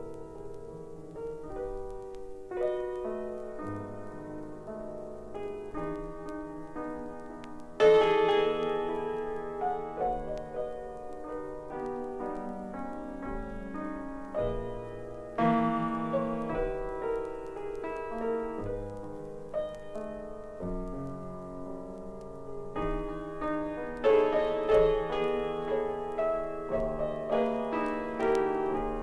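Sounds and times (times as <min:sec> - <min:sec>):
jazz piano chords: 0:00.0 - 0:29.0.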